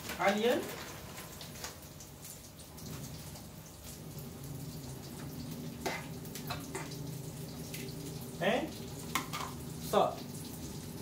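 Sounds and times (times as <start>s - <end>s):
sauce sizzling in a wok: 0.0s - 11.0s.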